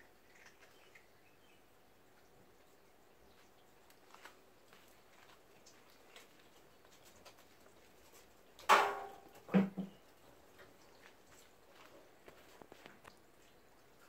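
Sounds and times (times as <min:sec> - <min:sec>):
small paws pattering on concrete: 0:02.2 - 0:08.6, 0:09.2 - 0:14.0.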